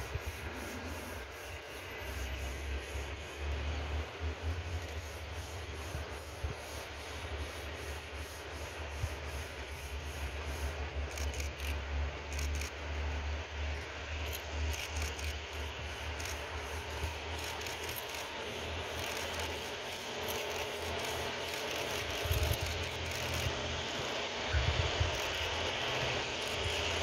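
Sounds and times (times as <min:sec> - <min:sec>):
faint outdoor hiss: 0:00.0 - 0:27.0.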